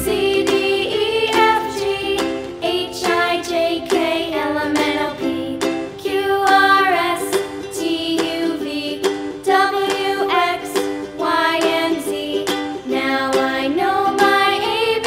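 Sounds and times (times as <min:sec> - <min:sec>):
children's rhyme sung over music: 0:00.0 - 0:15.0.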